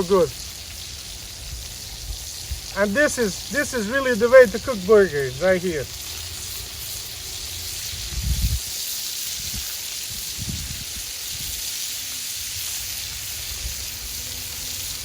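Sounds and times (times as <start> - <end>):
burger patties sizzling: 0.0 - 15.0.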